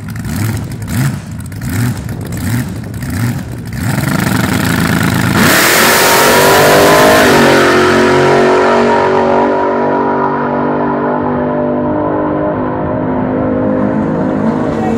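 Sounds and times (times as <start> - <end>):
dragster engine full-throttle roar: 0.0 - 14.9.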